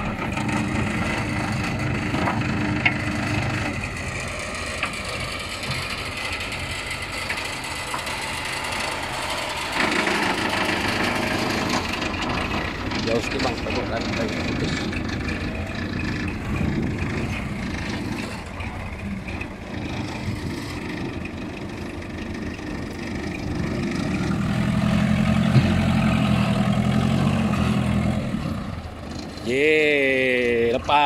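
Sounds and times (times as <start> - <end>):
heavy machine engines running: 0.0 - 31.0.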